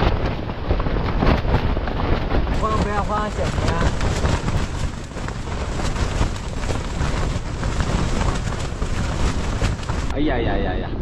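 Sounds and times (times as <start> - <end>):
tent flapping and rattling: 0.0 - 10.5
wind buffeting a tent: 0.0 - 11.0
wind noise on microphone: 0.0 - 11.0.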